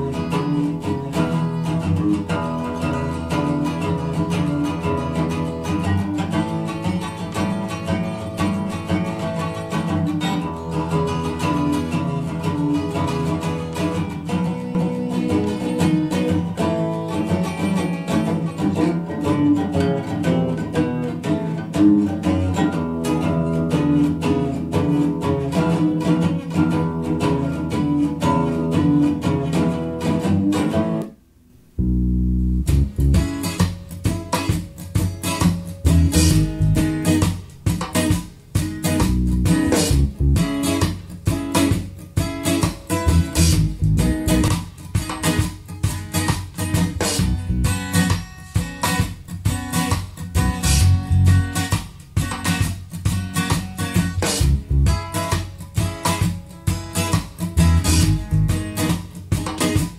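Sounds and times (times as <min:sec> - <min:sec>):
acoustic blues guitar through speakers: 0:00.0 - 0:59.9.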